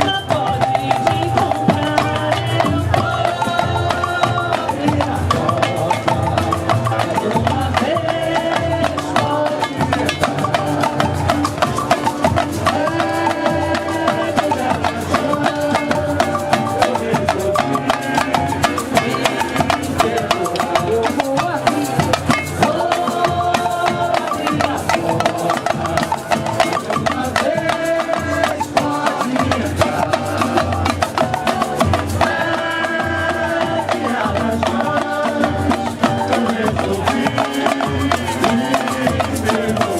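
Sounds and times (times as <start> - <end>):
samba percussion: 0.0 - 39.9
voices singing samba: 0.0 - 39.9.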